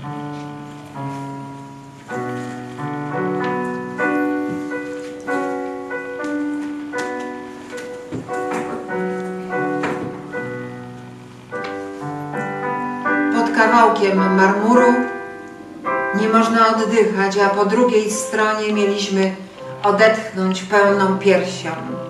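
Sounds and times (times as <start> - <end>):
electronic keyboard playing piano chords: 0.0 - 22.0.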